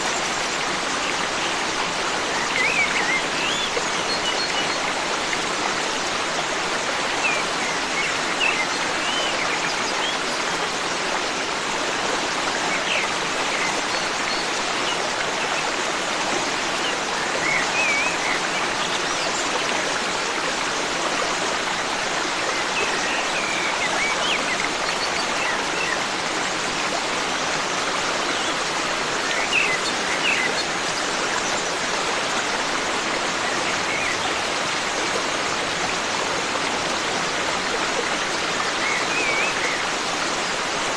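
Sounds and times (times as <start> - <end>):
forest stream rushing: 0.0 - 40.9.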